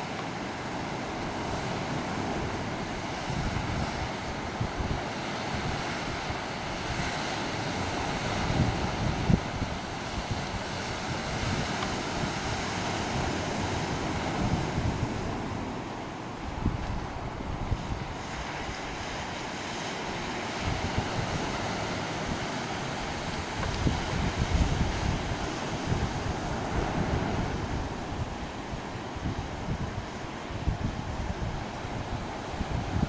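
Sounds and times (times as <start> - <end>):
sea surf washing on shore: 0.0 - 33.0
wind buffeting microphone: 0.0 - 33.0.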